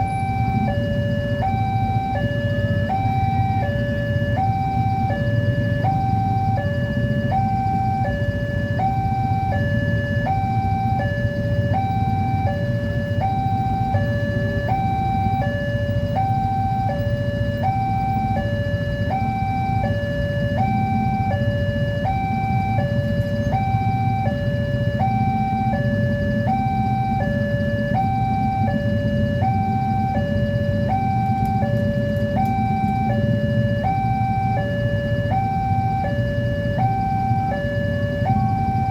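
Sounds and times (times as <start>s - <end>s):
two-tone crossing alarm: 0.0s - 38.9s.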